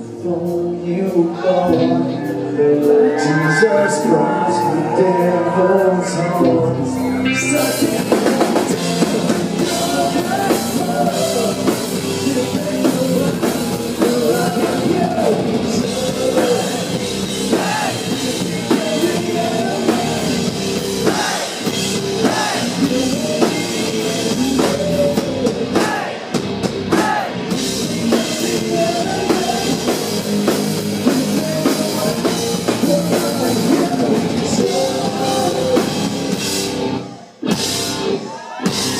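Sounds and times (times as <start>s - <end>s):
man singing: 0.0s - 26.3s, 26.9s - 37.6s
live rock band: 0.0s - 38.9s.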